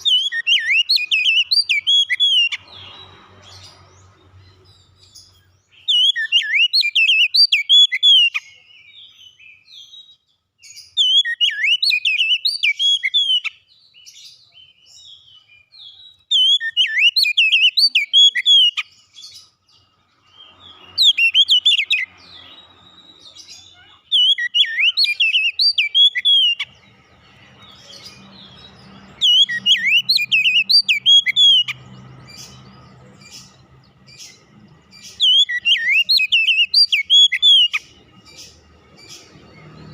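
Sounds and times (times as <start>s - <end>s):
bird singing whistled phrases: 0.0s - 2.6s, 5.7s - 19.4s, 20.4s - 26.7s, 27.7s - 33.6s, 35.0s - 38.4s.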